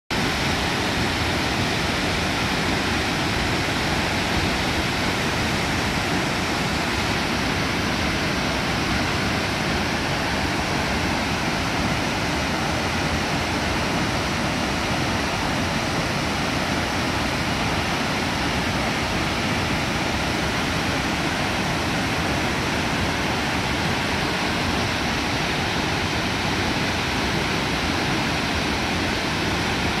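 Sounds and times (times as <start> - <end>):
waterfall roaring: 0.1 - 30.0.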